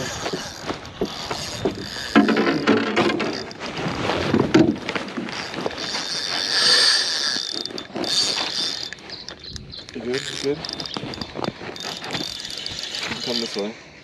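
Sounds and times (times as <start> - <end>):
fishing reel whirring: 0.0 - 4.3, 5.1 - 13.8.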